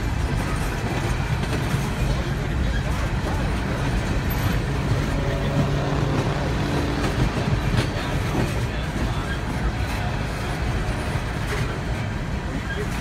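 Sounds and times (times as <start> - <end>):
steel wheels rumbling on track: 0.0 - 13.0.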